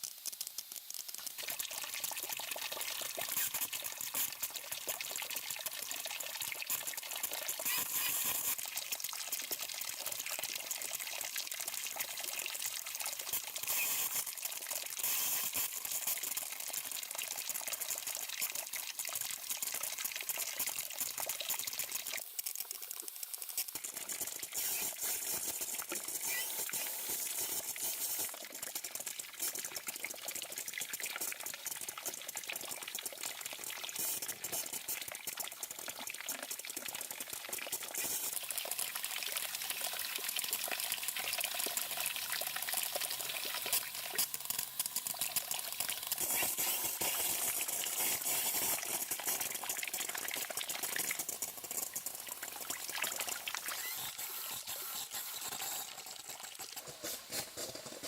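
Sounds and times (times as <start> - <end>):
water-like noise with crackles: 0.0 - 58.0.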